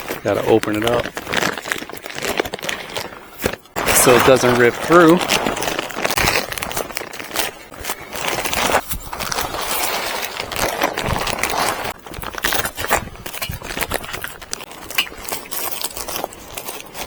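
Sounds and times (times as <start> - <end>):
plastic sheet rustling and crinkling: 0.0 - 17.0.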